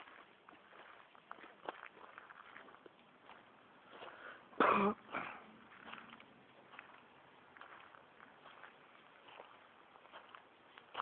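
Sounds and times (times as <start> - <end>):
footsteps on gravel path: 0.0 - 11.0.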